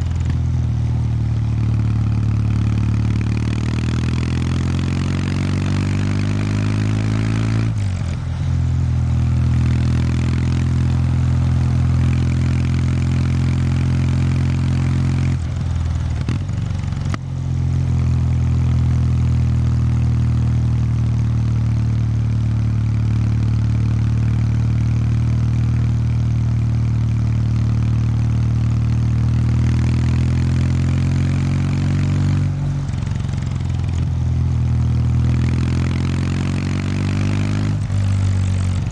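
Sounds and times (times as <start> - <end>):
motorcycle engine with gear changes: 0.0 - 38.9.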